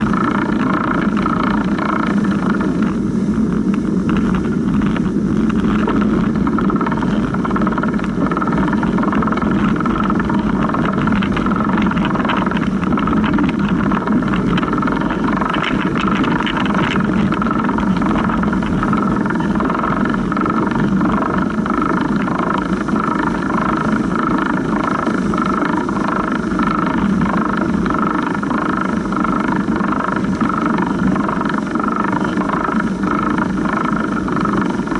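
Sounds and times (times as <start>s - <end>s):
bicycle chain whirring: 0.0s - 34.9s
small clicks and rattles: 0.0s - 34.9s.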